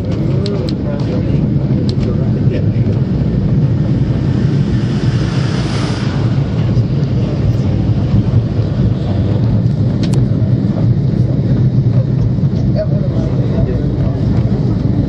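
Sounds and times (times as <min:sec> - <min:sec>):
tramcar rumbling on rails: 0:00.0 - 0:15.0.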